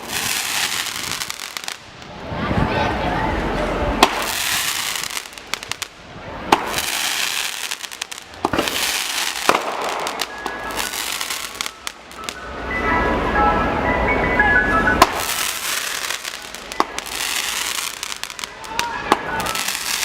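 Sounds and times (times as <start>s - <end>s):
fireworks bangs and pops: 0.0s - 2.6s, 3.6s - 12.4s, 15.0s - 20.0s
fireworks booms: 0.0s - 2.7s, 3.4s - 11.9s, 15.0s - 20.0s
fireworks crackling: 0.0s - 13.3s, 14.8s - 20.0s.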